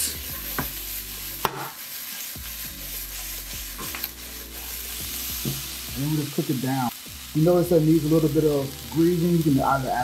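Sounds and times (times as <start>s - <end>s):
okra sizzling in a skillet: 0.0s - 10.0s.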